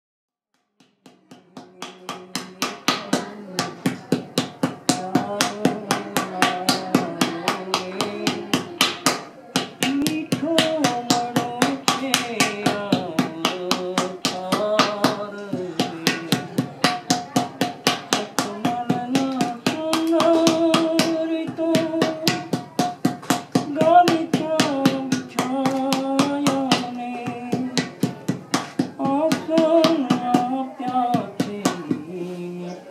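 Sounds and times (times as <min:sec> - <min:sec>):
fast hand percussion beat: 0:00.8 - 0:32.1.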